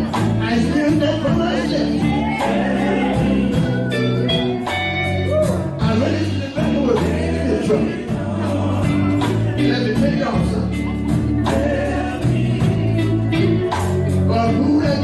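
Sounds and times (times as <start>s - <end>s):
bass: 0.0s - 15.0s
guitar accompaniment: 0.0s - 15.0s
person singing gospel: 0.0s - 15.0s.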